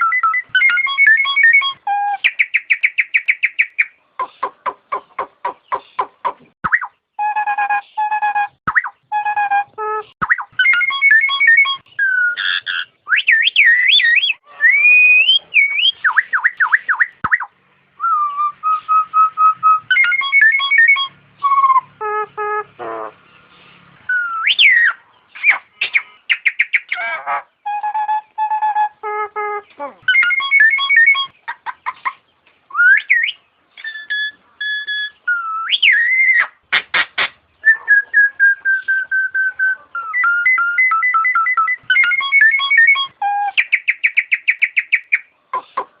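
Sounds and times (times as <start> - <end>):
myna whistling calls: 0.0 - 23.2, 24.1 - 45.9.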